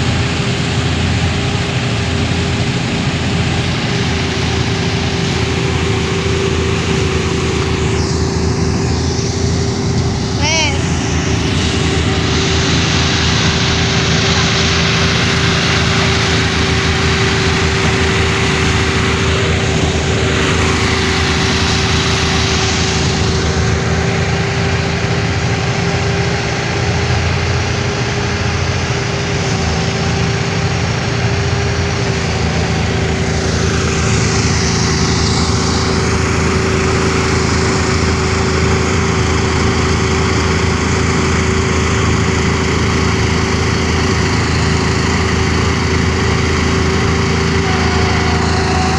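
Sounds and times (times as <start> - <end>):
small engine running thresher: 0.0 - 48.9.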